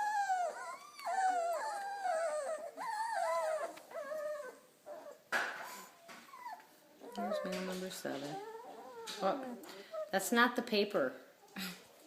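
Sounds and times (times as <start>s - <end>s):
puppies whining: 0.0s - 10.2s.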